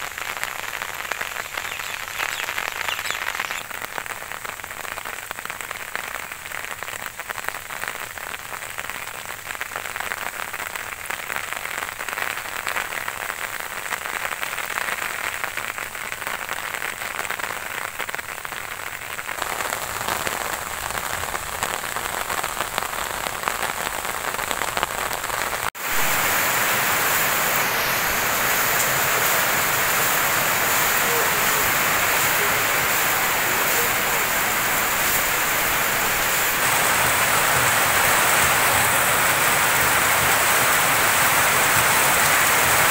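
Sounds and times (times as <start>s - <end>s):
heavy rain on tin roofs: 0.0s - 42.9s
rain on leafy plants: 0.0s - 42.9s.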